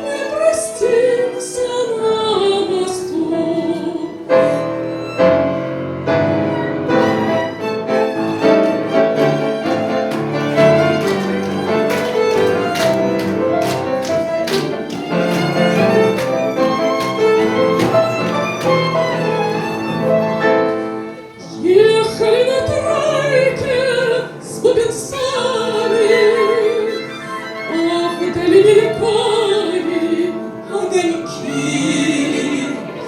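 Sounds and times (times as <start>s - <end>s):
violin melody with accompaniment: 0.0s - 33.0s.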